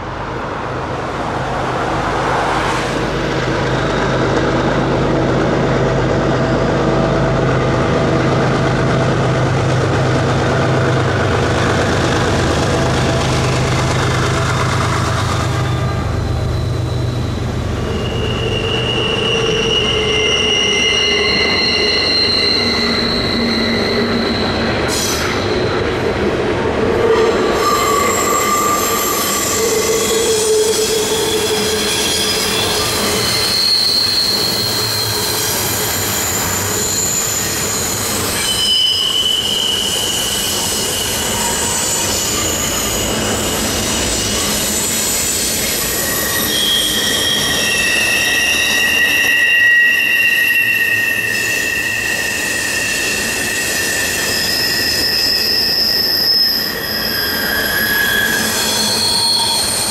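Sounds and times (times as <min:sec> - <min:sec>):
rumble of train cars rolling: 0:00.0 - 0:59.9
train wheels squealing on rail: 0:00.6 - 0:59.9.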